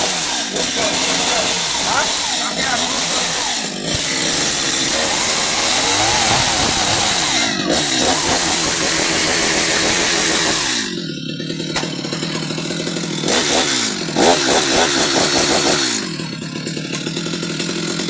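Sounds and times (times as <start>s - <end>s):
chainsaw engine revving: 0.0s - 18.0s
chainsaw idling: 0.0s - 18.0s.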